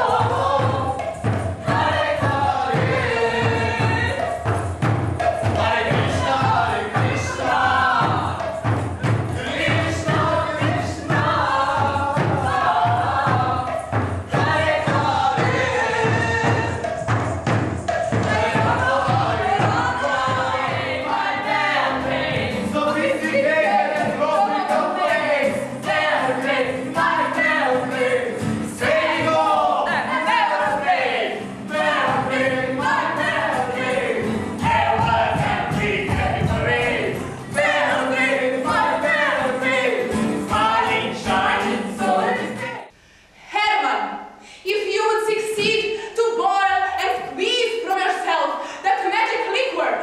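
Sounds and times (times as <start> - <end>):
voices singing a chant: 0.0 - 43.0.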